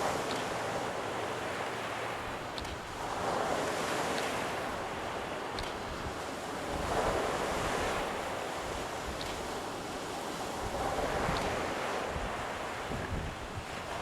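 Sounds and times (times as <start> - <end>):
waves washing on beach: 0.0 - 14.0
wind buffeting microphone: 2.0 - 14.0.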